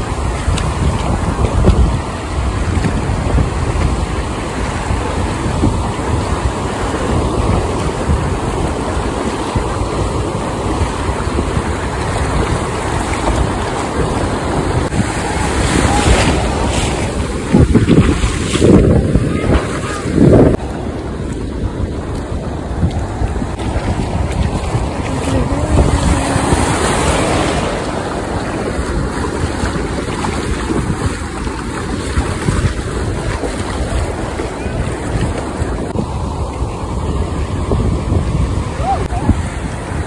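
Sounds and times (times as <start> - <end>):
ocean surf washing on sand: 0.0 - 40.0
wind on microphone: 0.0 - 40.0.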